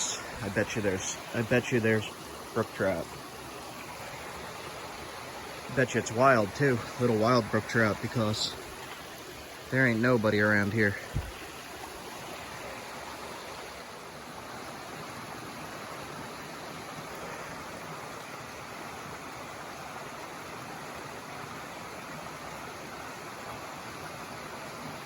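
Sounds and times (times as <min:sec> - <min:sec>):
river rushing over rocks: 0:00.0 - 0:25.0.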